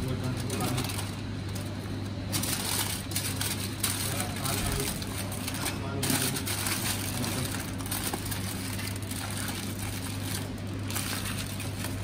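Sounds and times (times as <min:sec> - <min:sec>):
aluminium foil crinkling: 0:00.0 - 0:12.0
steady low hum: 0:00.0 - 0:12.0.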